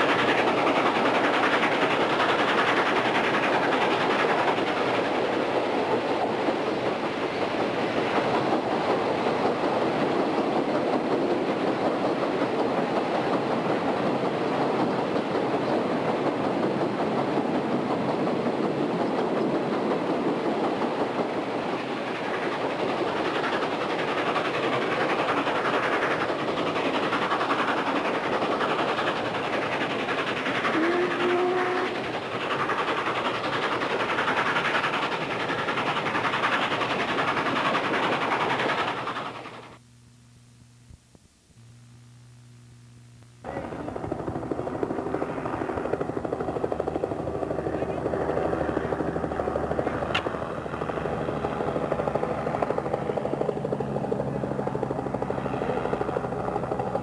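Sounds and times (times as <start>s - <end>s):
train wheels rumbling on rail: 0.0s - 39.8s, 43.4s - 57.0s.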